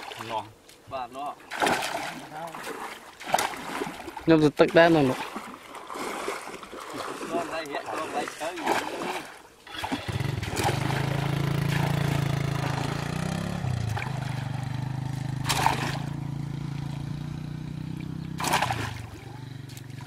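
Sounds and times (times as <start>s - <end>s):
water splash: 0.0s - 0.5s, 1.5s - 17.2s, 17.9s - 20.0s.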